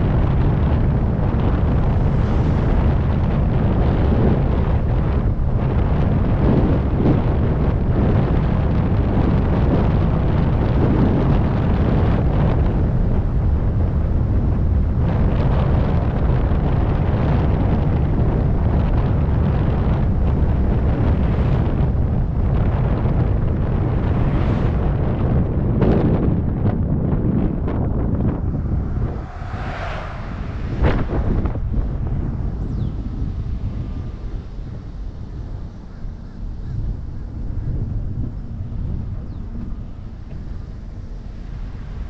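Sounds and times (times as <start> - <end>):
car engine and road rumble: 0.0 - 42.0
wind rumbling on microphone: 0.0 - 42.0.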